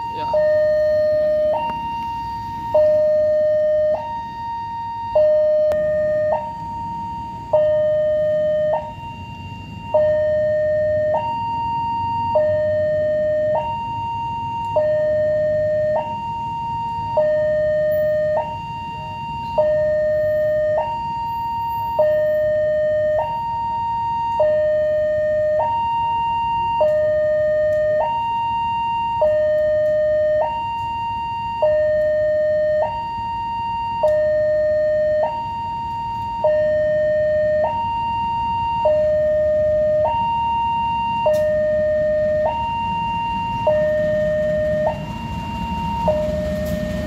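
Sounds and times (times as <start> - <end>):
level-crossing two-tone alarm: 0.0 - 47.0.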